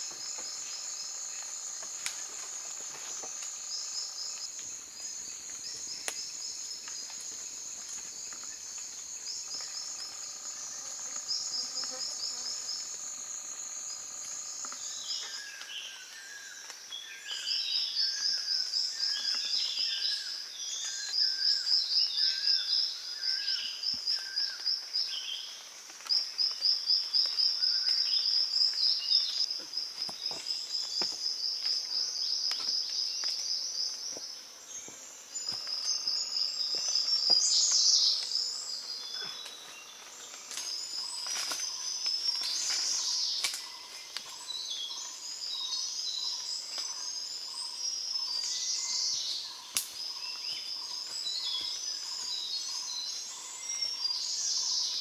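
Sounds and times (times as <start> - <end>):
insects buzzing and trilling: 0.0 - 55.0.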